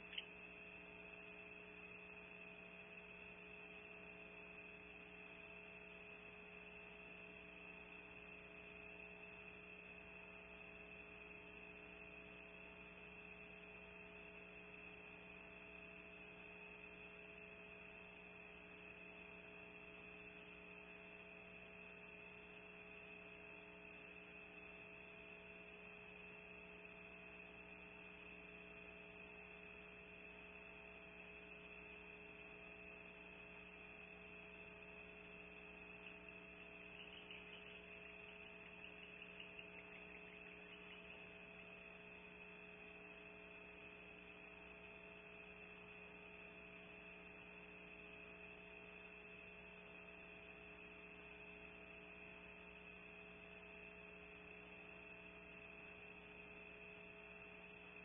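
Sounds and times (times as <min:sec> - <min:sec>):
electrical hum with high whine: 0:00.0 - 0:58.0.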